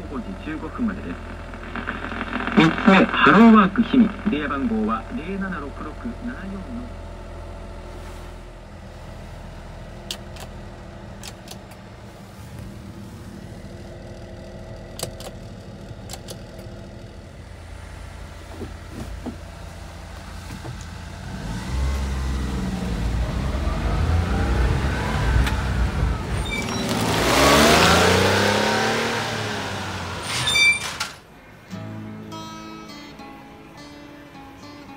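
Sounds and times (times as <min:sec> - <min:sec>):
truck engine idling: 0:00.0 - 0:28.3
truck engine accelerating: 0:00.0 - 0:31.6.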